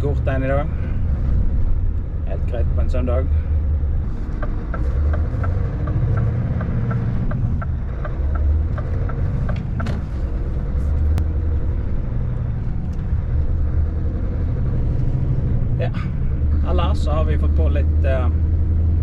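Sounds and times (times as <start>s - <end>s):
truck engine rumbling: 0.0s - 19.0s.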